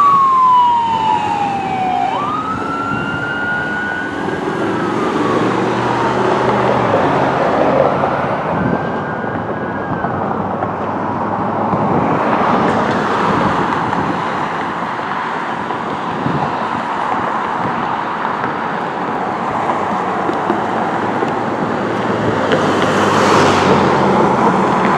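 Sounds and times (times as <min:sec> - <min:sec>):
fire engine siren: 0:00.0 - 0:24.9
road and engine noise: 0:00.0 - 0:24.9.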